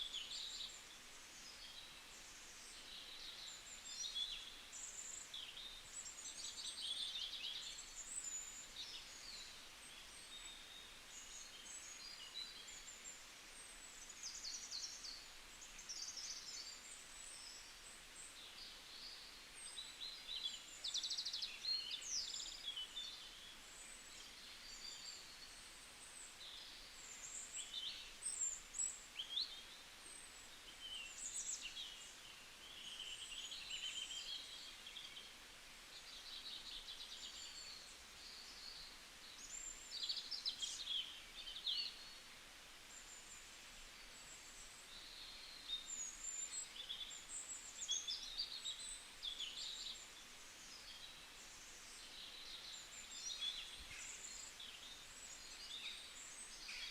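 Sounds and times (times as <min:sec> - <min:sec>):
faint outdoor hiss: 0:00.0 - 0:56.9.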